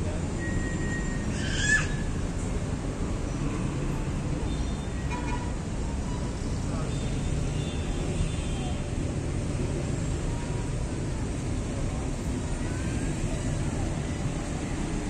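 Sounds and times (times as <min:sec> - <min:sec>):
street background rumble: 0:00.0 - 0:15.0.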